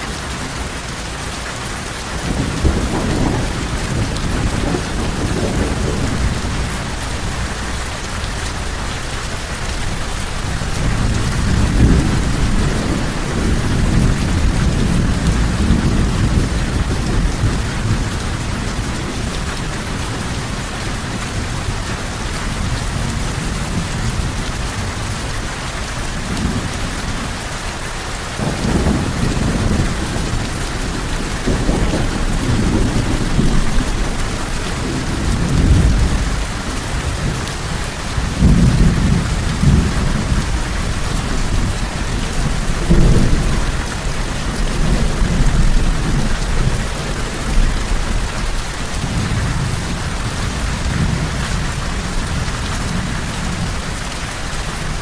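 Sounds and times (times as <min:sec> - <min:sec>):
heavy rain: 0:00.0 - 0:55.0
rolling thunder: 0:02.1 - 0:54.0.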